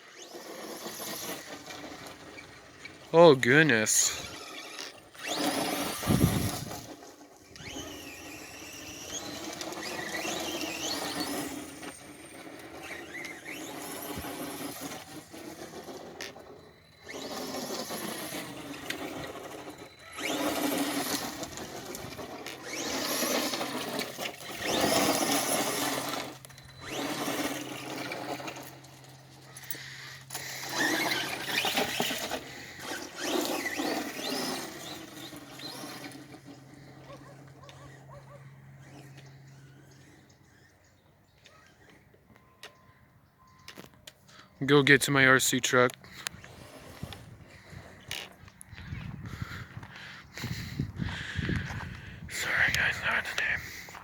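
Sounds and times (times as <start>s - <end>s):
rc truck motor whining: 0.0s - 54.0s.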